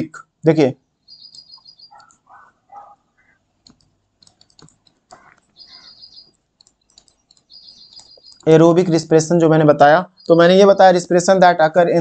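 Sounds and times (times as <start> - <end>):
bird chirping: 0.7 - 11.4.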